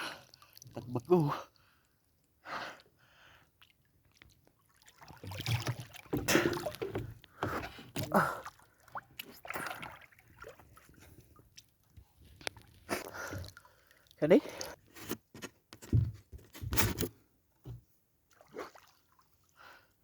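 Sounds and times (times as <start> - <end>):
water splashing and sloshing: 0.0 - 2.3, 3.0 - 20.0.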